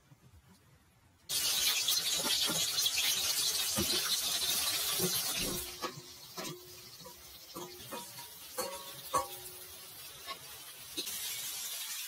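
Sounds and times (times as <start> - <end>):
onions sizzling in hot oil: 1.3 - 12.0.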